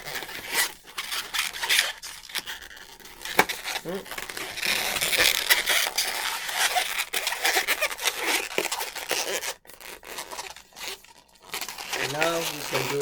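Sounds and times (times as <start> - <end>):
rubber balloons squeaking: 0.0 - 13.0.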